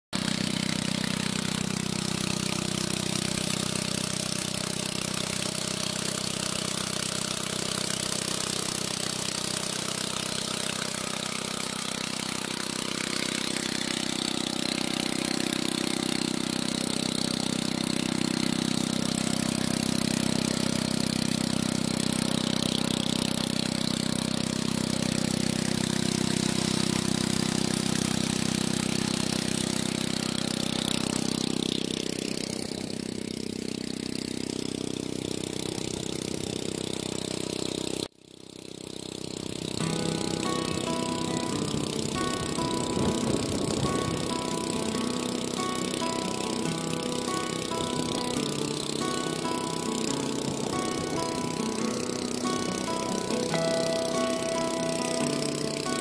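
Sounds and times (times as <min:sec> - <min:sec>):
motorcycle engine running: 0:00.1 - 0:56.0.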